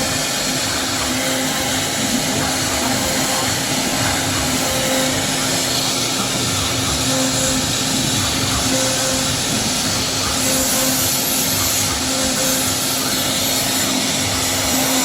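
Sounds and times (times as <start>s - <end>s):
low machine tone: 0.0s - 15.0s
router spindle cutting: 0.0s - 15.0s.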